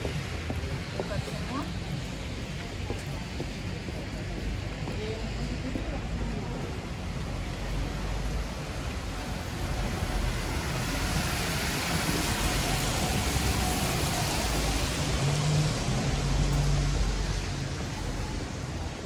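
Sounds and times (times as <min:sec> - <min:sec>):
rain hissing on wet tarmac: 0:00.0 - 0:19.0
tyres swishing on wet road: 0:00.0 - 0:19.0.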